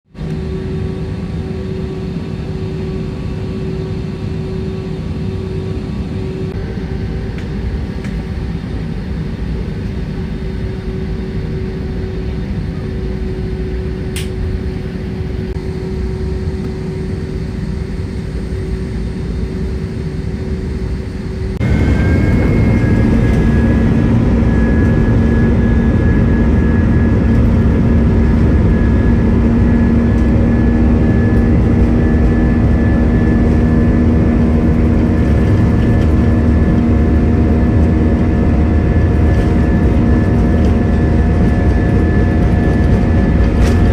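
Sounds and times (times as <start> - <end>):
high whine: 0.1 - 43.9
jet engine and airflow hum: 0.1 - 43.9.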